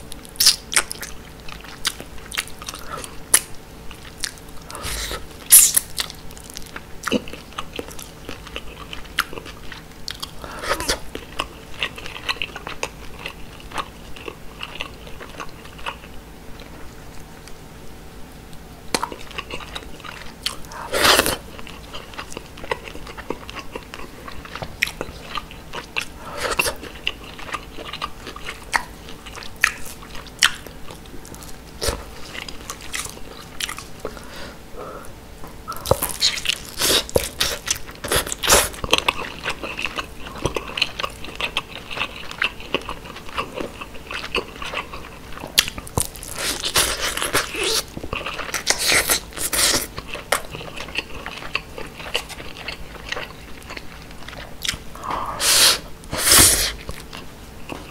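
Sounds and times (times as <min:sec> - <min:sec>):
chewing fish with crunches: 0:00.1 - 0:17.3, 0:18.9 - 0:34.3, 0:35.7 - 0:55.0.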